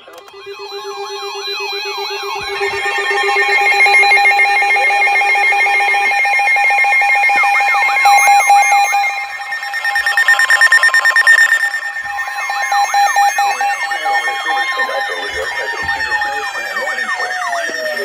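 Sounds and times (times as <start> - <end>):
rapid pulsing alarm beep: 0.0 - 18.0
steady alarm tone: 0.0 - 18.0
rising and falling sweeping tones: 0.5 - 18.0.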